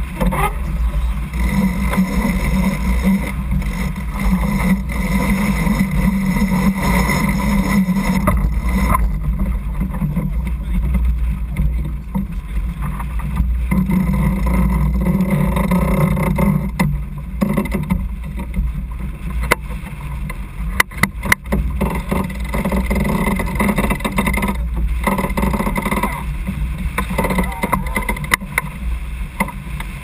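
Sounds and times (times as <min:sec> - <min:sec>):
low rumble: 0:00.0 - 0:30.0
wind and water along hull: 0:00.0 - 0:30.0.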